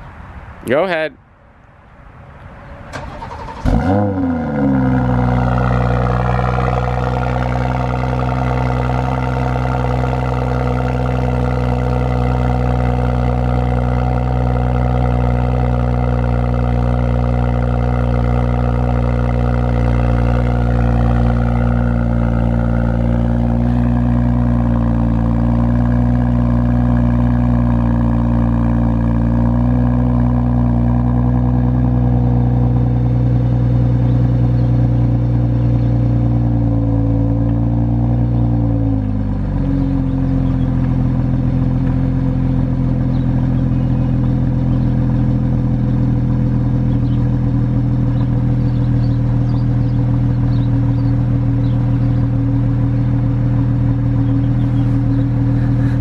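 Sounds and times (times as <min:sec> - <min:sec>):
car engine starting and idling: 0:02.0 - 0:56.0.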